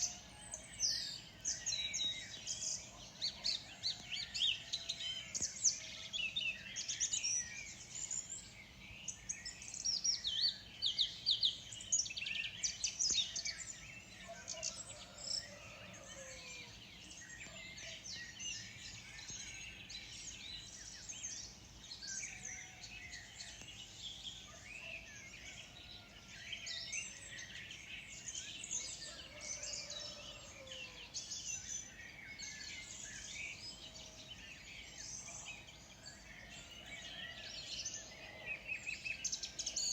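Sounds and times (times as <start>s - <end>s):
faint outdoor hiss: 0.0s - 39.9s
small birds chirping and trilling: 0.0s - 39.9s.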